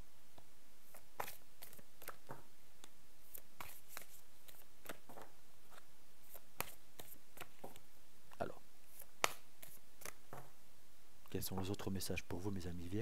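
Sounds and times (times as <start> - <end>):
room hiss: 0.0 - 13.0.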